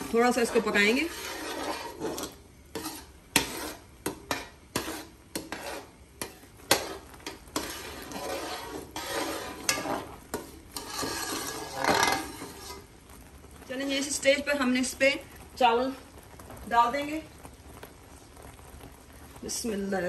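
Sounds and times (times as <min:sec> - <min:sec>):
syrup bubbling and hissing: 0:00.0 - 0:20.0.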